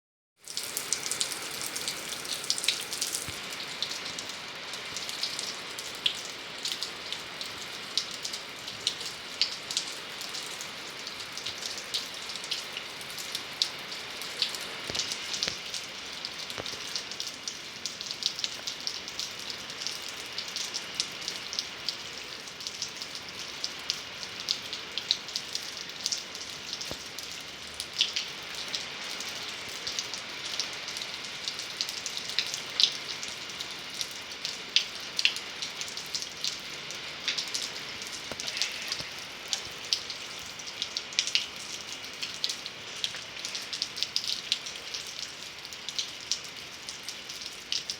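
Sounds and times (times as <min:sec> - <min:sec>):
rain hissing: 0:00.4 - 0:45.9
raindrops ticking on hard surface: 0:00.5 - 0:47.9.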